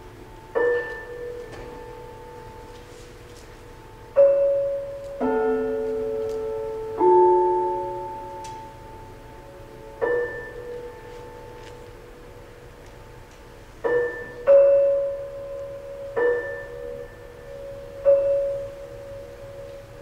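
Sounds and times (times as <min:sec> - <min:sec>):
slow piano notes and chords: 0:00.0 - 0:20.0.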